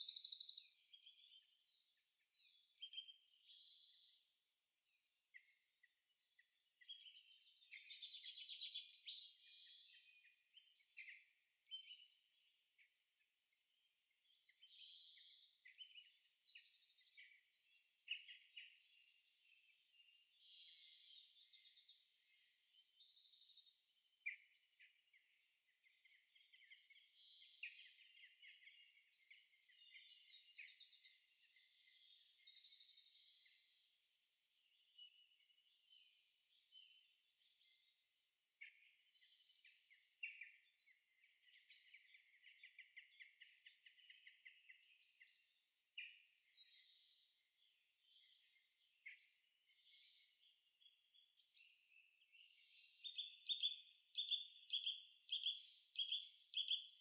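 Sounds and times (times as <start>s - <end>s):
faint songbirds singing: 0.0s - 57.0s.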